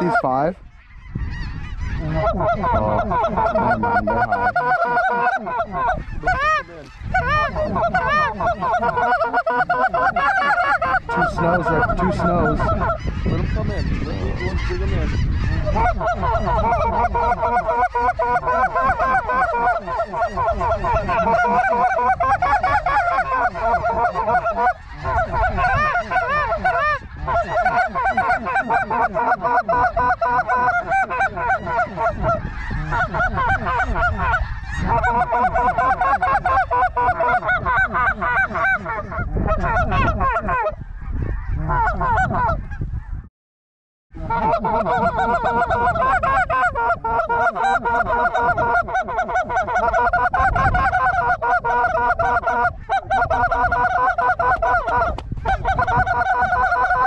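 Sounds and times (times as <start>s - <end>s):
geese honking: 0.0s - 43.1s, 44.2s - 57.0s
wind rumbling on microphone: 0.0s - 43.3s, 44.1s - 57.0s.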